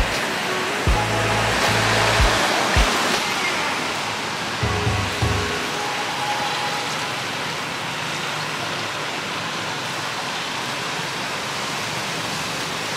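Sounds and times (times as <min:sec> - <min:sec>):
steady rushing noise: 0:00.0 - 0:12.2.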